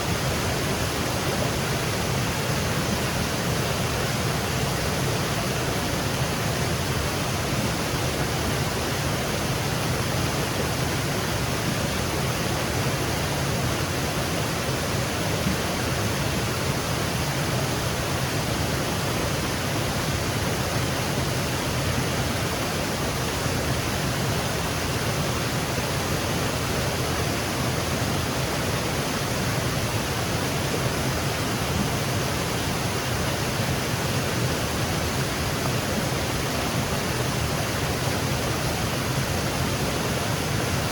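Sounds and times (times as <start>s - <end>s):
waterfall cascading: 0.0s - 40.9s.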